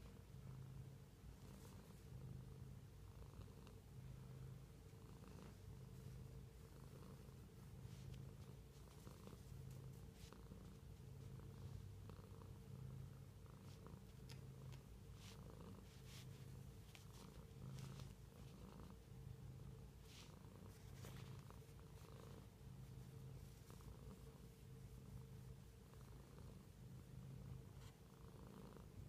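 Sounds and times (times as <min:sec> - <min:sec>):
cat purring: 0:00.0 - 0:29.0.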